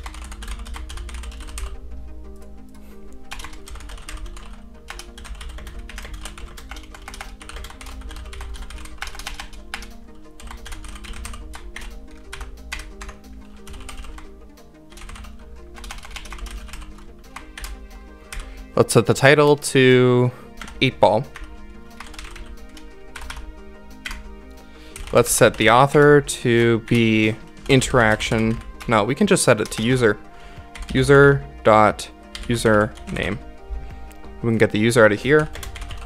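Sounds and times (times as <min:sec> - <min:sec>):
keyboard typing: 0:00.0 - 0:14.3, 0:14.9 - 0:18.7, 0:20.6 - 0:31.2, 0:32.3 - 0:33.4, 0:34.0 - 0:36.0
background music with repeating melody: 0:00.0 - 0:36.0.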